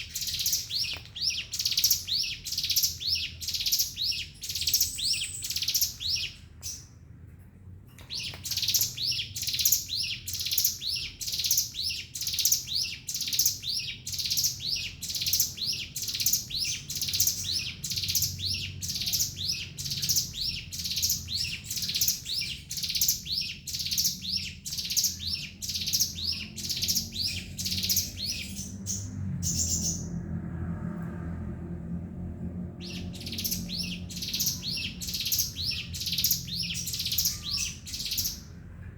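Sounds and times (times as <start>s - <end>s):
songbird fast high chirps: 0.0s - 6.9s, 8.0s - 30.1s, 32.8s - 38.5s.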